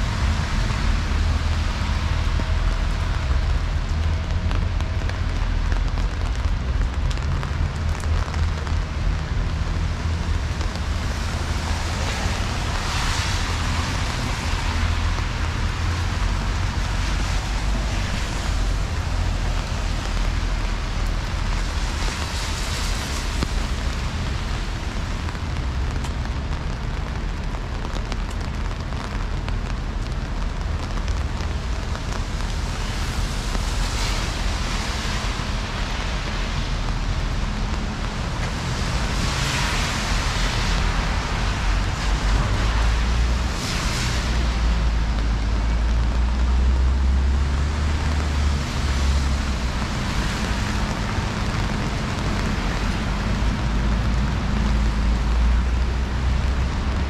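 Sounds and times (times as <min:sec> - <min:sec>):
heavy low rumble: 0:00.0 - 0:57.0
rain hiss: 0:00.0 - 0:57.0
tyres on wet pavement: 0:00.0 - 0:57.0.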